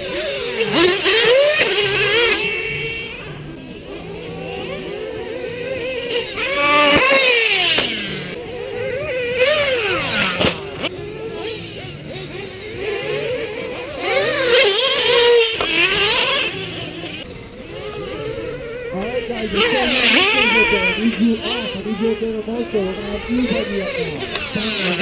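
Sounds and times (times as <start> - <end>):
rc car motors whining: 0.0 - 25.0.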